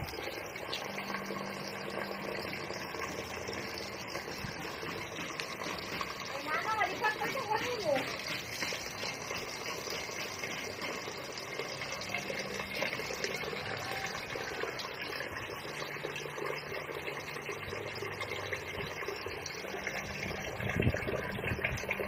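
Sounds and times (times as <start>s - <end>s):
water running into metal pot: 0.0s - 22.0s.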